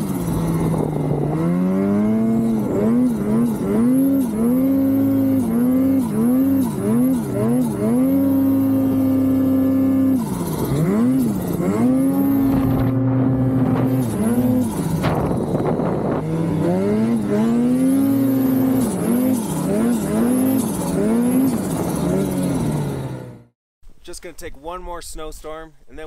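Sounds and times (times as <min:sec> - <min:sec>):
snowmobile engine revving: 0:00.0 - 0:23.5.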